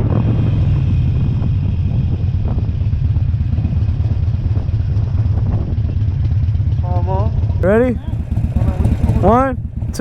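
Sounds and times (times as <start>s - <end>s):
motorcycle engine idling: 0.1s - 10.0s.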